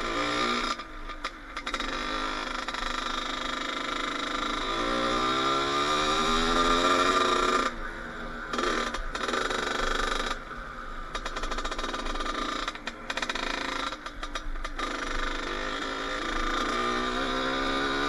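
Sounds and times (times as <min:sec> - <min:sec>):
dirt bike engine revving: 0:00.0 - 0:00.8, 0:01.6 - 0:10.4, 0:11.1 - 0:18.0.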